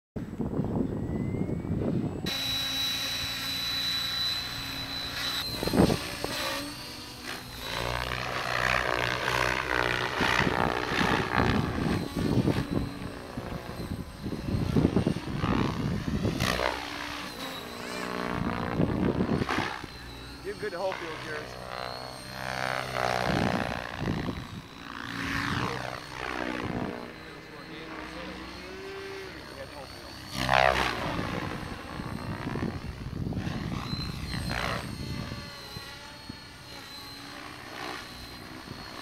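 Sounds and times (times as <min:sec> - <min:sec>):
helicopter rotor noise: 0:00.2 - 0:39.0
rc helicopter motor whine: 0:00.2 - 0:39.0.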